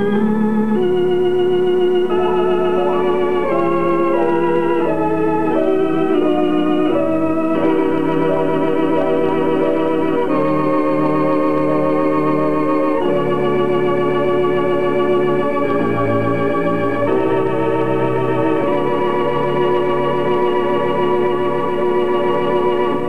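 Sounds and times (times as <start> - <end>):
slow held keyboard chords: 0.0 - 23.0.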